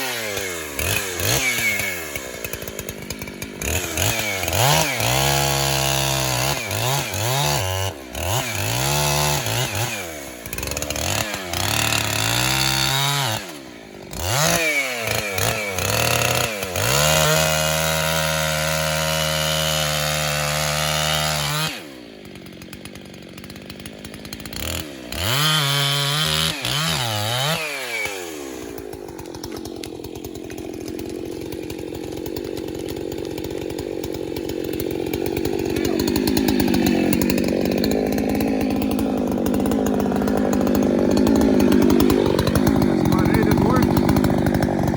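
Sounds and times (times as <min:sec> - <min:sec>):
chainsaw revving and idling: 0:00.0 - 0:44.9.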